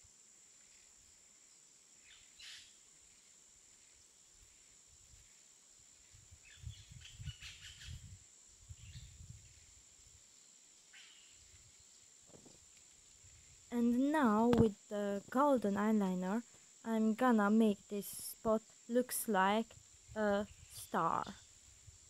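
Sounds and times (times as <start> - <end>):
faint hiss: 0.0 - 22.0.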